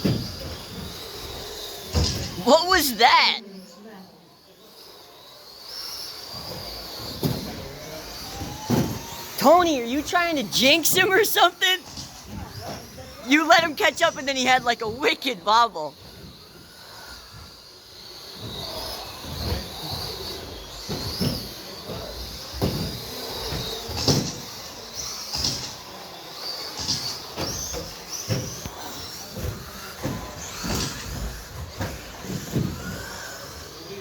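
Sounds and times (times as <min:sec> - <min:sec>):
toy trucks knocking and clattering: 0:00.0 - 0:02.9, 0:04.8 - 0:34.0
electric motors whining: 0:00.0 - 0:34.0.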